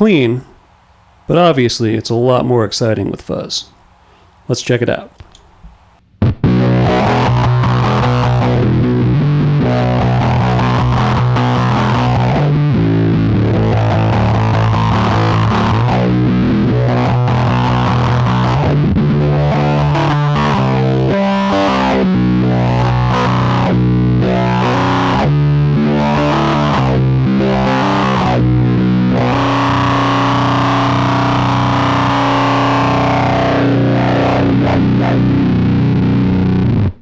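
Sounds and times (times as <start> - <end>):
fuzz electric guitar with wah filter: 6.2 - 37.0.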